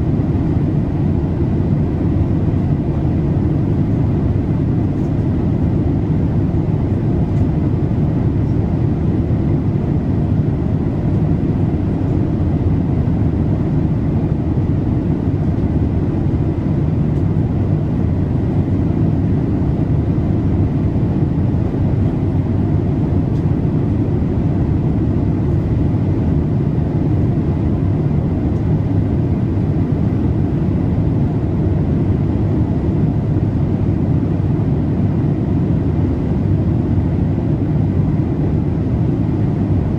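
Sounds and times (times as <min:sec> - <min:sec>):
airplane cabin engine and airflow: 0:00.0 - 0:39.9.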